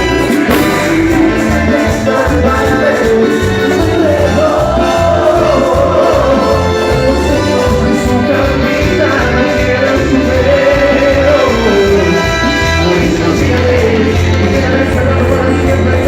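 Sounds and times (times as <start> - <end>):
latin dance music by a band: 0.0 - 16.0.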